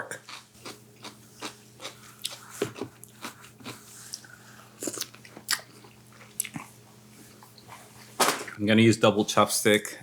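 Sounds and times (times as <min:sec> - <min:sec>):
chewing crunchy food: 0:00.0 - 0:08.1.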